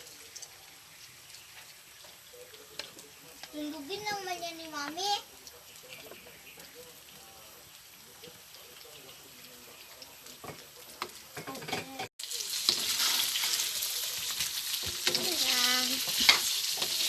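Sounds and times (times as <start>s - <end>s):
pizza sizzling in a pan: 0.0s - 17.0s.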